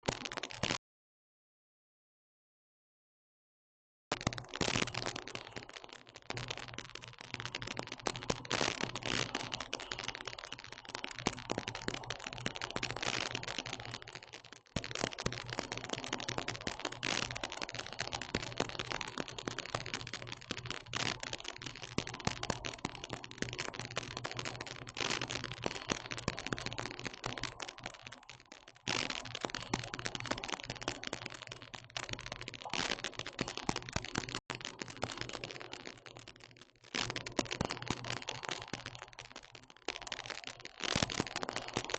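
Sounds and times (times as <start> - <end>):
dense crackling and clicking: 0.0 - 0.8, 4.1 - 41.9.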